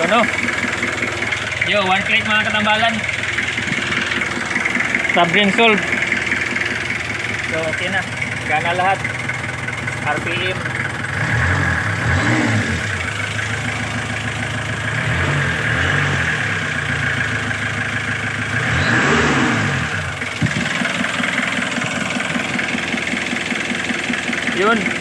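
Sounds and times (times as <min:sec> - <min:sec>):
diesel engine revving and idling: 0:00.0 - 0:25.0.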